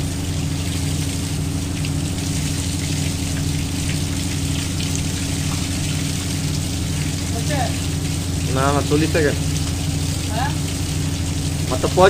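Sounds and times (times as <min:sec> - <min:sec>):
steady low hum: 0:00.0 - 0:12.0
water gushing onto palm fronds: 0:00.0 - 0:12.0.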